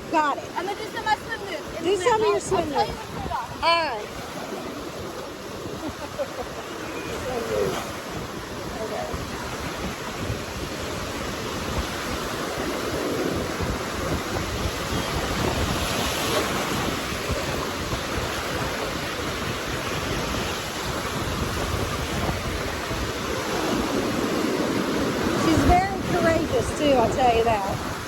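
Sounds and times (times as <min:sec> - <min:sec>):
ocean surf washing onto beach: 0:00.0 - 0:28.0
wind buffeting microphone: 0:00.0 - 0:28.0.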